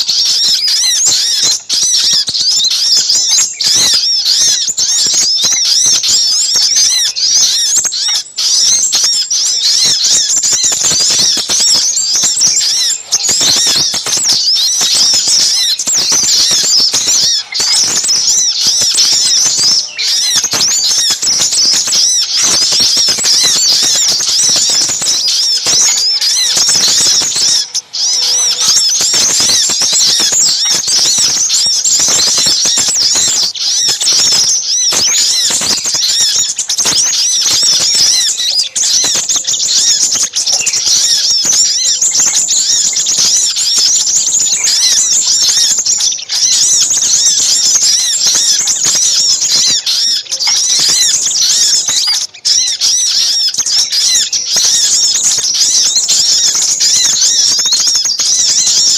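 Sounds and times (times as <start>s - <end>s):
bird calls: 0.0s - 58.9s
small birds chirping and trilling: 0.0s - 58.9s.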